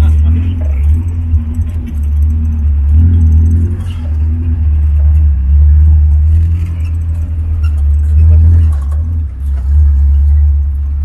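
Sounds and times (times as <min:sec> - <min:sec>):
jeep engine rumbling: 0:00.0 - 0:11.0.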